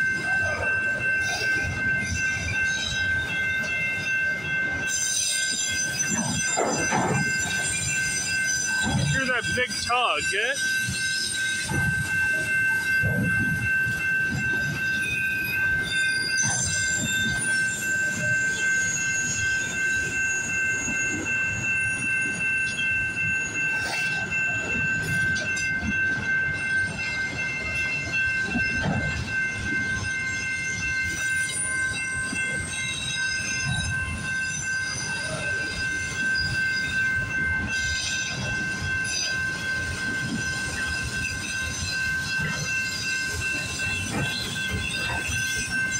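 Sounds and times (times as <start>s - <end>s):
high-pitched wheel squeal: 0.0s - 45.9s
train wheels rumbling on rail: 0.0s - 45.9s.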